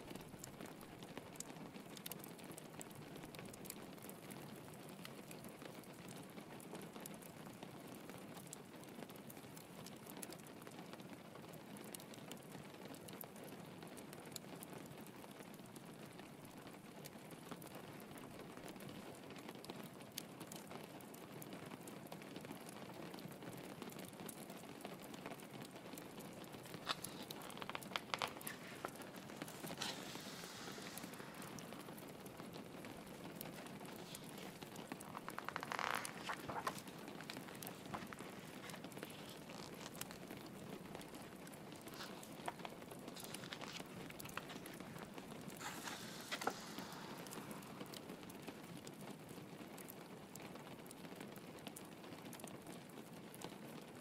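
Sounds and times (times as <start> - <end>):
log fire crackling: 0.0 - 54.0
rain pattering on window: 0.0 - 54.0.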